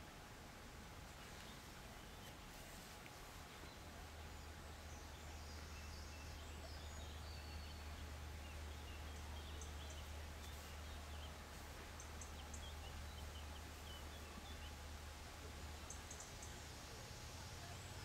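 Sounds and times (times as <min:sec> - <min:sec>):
low rumble with hiss: 0:00.0 - 0:18.0
small birds chirping: 0:01.0 - 0:18.0.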